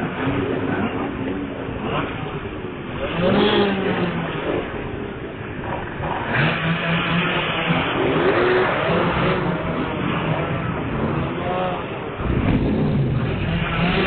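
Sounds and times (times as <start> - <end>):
motorcycle engines revving: 0.0 - 14.0
motorcycle engines running: 0.0 - 14.0.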